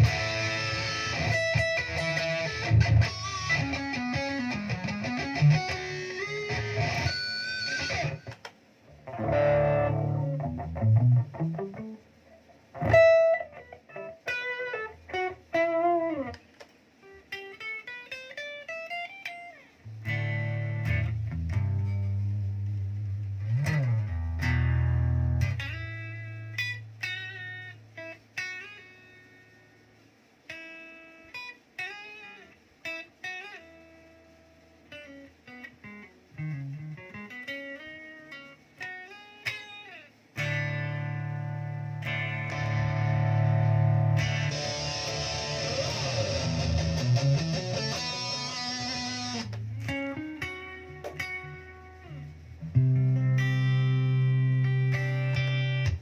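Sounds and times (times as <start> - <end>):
electric guitar playing: 0.0 - 29.8, 30.5 - 56.0.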